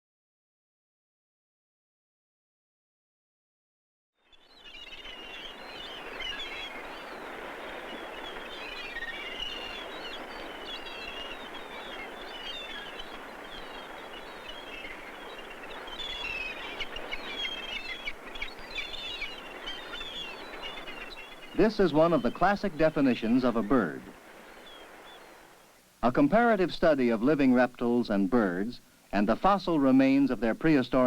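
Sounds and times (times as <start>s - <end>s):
birds chirping: 4.3s - 31.0s
steady hiss: 5.5s - 31.0s.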